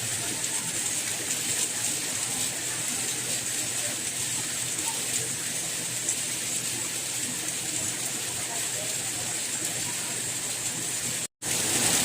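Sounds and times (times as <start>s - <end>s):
raindrops ticking: 0.0s - 11.9s
soft rain hiss: 0.0s - 12.0s.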